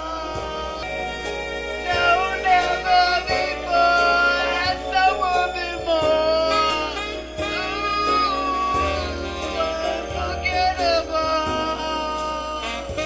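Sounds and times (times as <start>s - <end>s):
song with sung melody: 0.0s - 13.0s.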